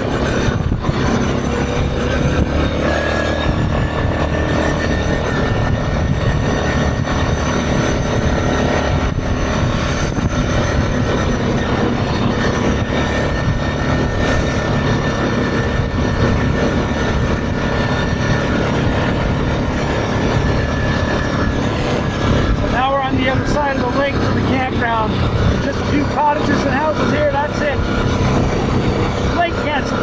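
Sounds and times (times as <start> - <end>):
atv engine drone: 0.0 - 30.0.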